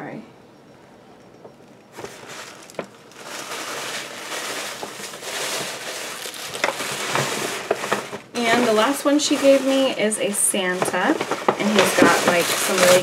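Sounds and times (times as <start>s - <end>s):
paper bag rustling: 1.6s - 13.0s.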